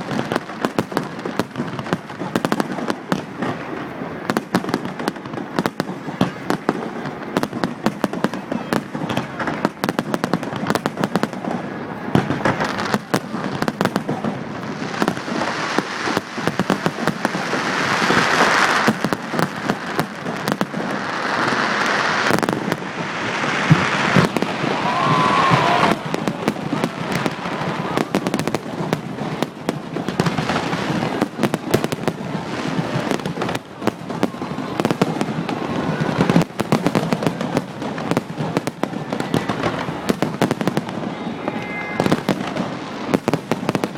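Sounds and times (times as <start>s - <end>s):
fireworks bangs: 0.0s - 43.9s
fireworks crackling: 0.0s - 43.9s.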